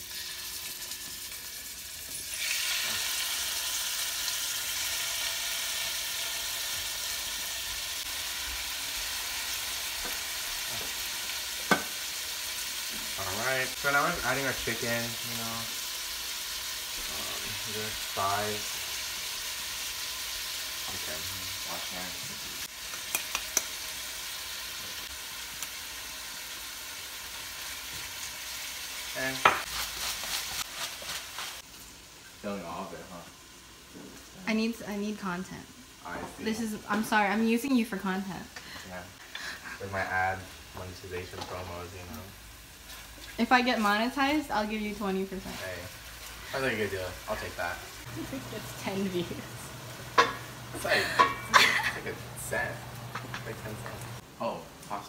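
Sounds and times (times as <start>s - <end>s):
chicken sizzling in a pan: 0.0s - 37.4s, 38.5s - 55.0s.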